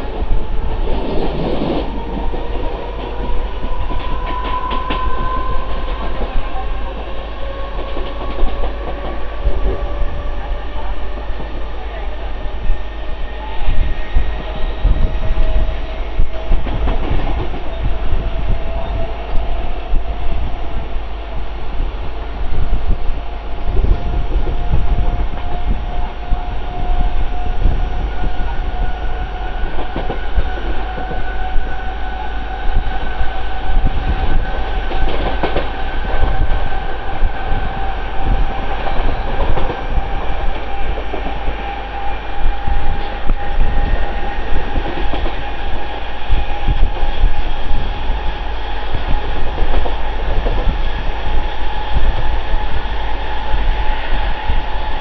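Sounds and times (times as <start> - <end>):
train wheels clattering on rails: 0.0 - 10.1, 14.1 - 20.2, 23.7 - 55.0
wind buffeting microphone: 0.0 - 55.0.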